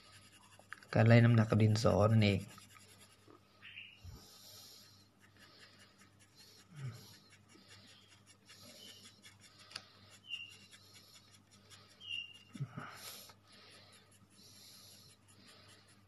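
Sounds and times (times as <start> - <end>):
pencil scratching on paper: 0.0 - 3.4, 4.2 - 16.0.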